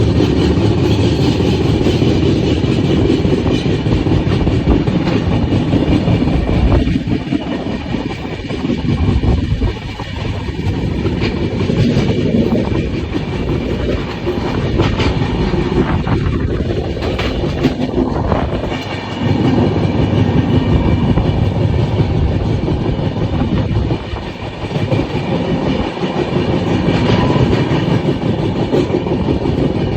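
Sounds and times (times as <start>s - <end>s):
train rumbling on rails: 0.0s - 29.9s
wheel clacks: 0.0s - 29.9s.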